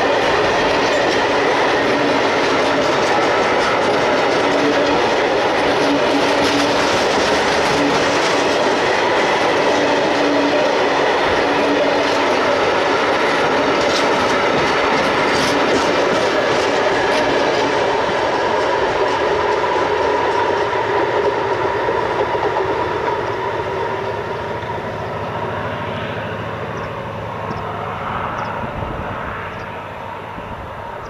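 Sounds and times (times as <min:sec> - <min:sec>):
train wheels clacking over rails: 0:00.0 - 0:31.0.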